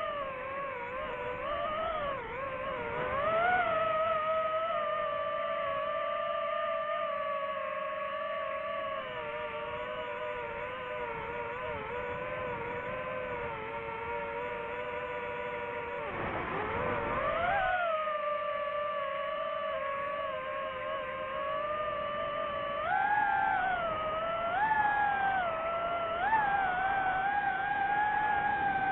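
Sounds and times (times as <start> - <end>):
drone propellers whining: 0.0 - 28.9.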